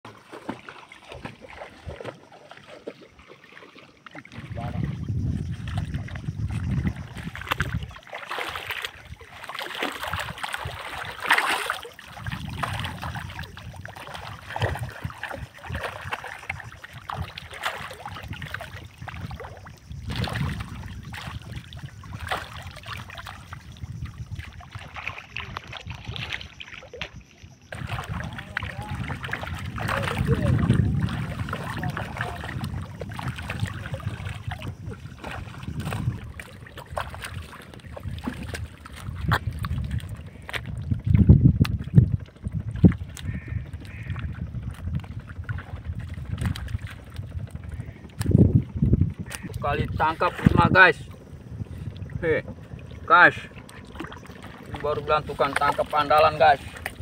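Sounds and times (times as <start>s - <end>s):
fish splashing in water: 0.1s - 48.4s, 52.8s - 57.0s.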